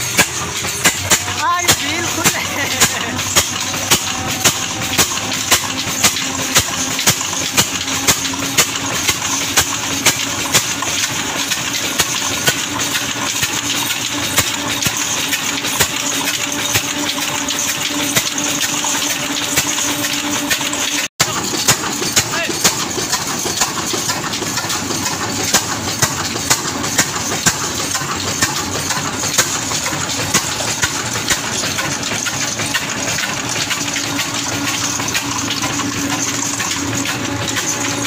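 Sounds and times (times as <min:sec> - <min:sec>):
diesel engine running: 0:00.0 - 0:38.0
mechanical clatter with regular tick: 0:00.0 - 0:38.0.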